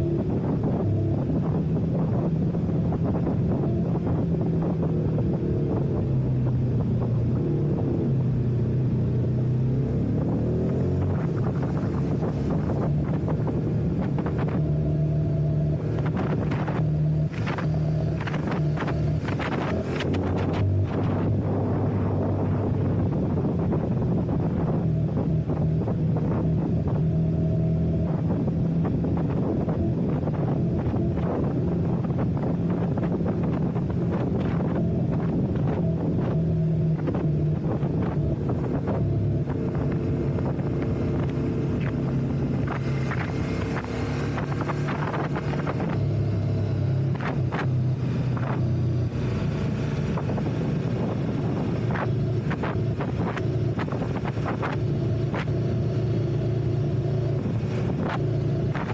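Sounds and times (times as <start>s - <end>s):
motorcycle engine running: 0.0s - 58.9s
wind buffeting microphone: 0.0s - 58.9s.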